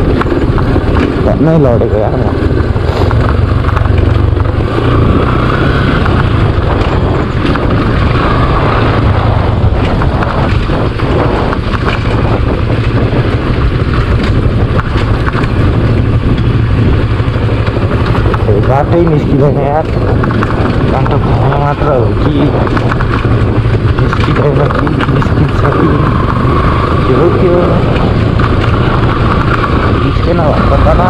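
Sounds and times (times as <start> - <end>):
motorcycle engine running: 0.0 - 31.0
wind noise on microphone: 0.0 - 31.0.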